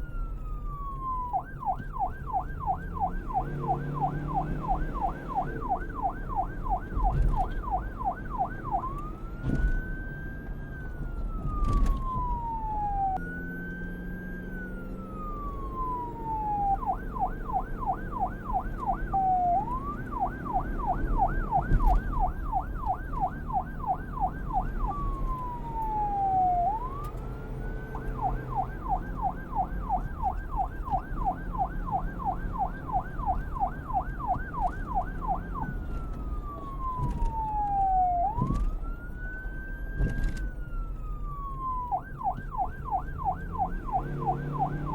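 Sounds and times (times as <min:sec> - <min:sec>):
police siren yelp and wail: 0:00.0 - 0:44.9.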